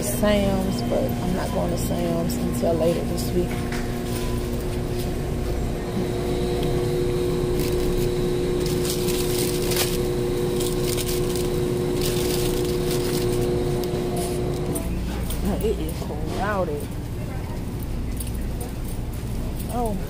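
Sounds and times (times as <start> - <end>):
freezer cases humming: 0.0 - 16.9.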